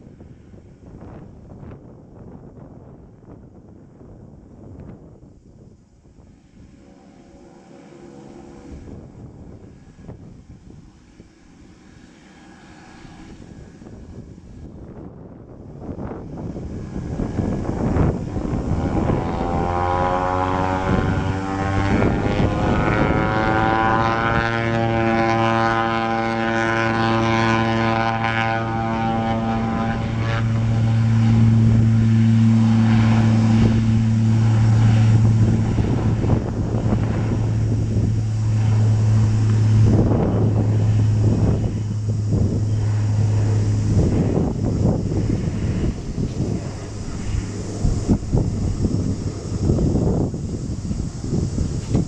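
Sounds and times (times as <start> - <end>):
low drone of propellers: 0.0 - 52.0
turboprop engine whine rising: 0.0 - 52.0.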